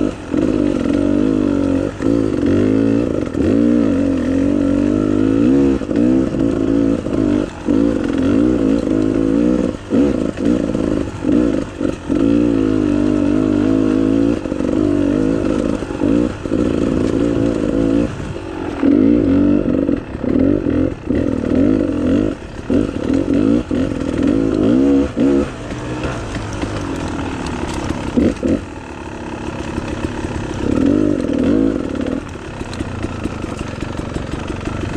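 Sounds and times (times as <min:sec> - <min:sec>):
off-road motorcycle engine revving: 0:00.0 - 0:34.9.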